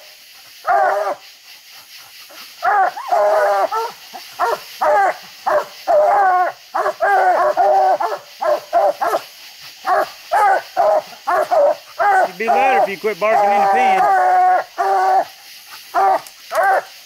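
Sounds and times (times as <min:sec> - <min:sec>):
dogs barking and bawling: 0:00.5 - 0:01.2, 0:02.0 - 0:17.0.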